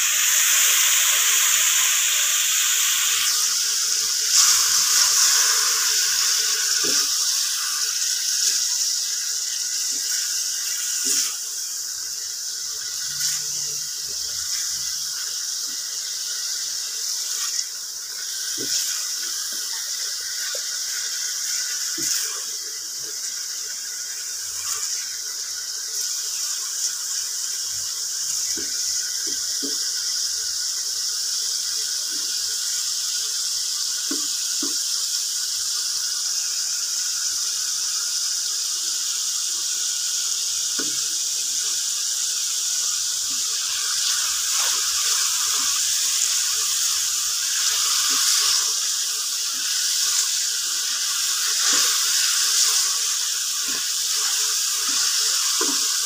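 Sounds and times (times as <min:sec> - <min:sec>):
gravy sizzling in a frying pan: 0:00.0 - 0:56.0.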